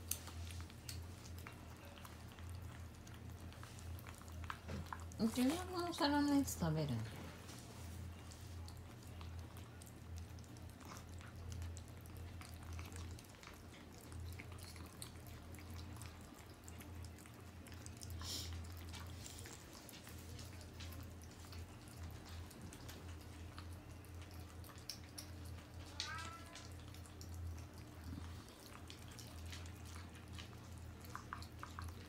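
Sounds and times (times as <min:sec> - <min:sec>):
kittens chewing wet food: 0:00.0 - 0:32.0.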